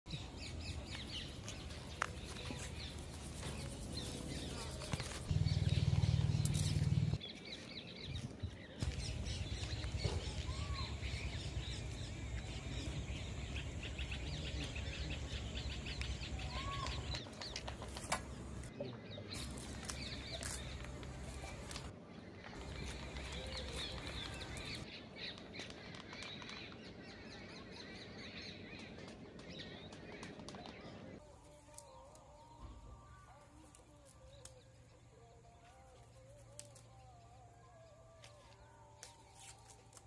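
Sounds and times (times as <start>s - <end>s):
birds chirping: 0.1s - 40.0s.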